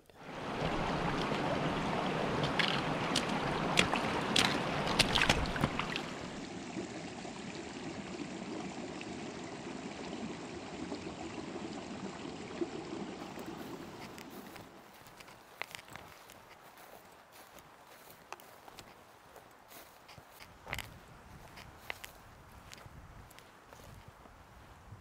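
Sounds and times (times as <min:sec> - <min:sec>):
stream rushing: 0:00.0 - 0:25.0.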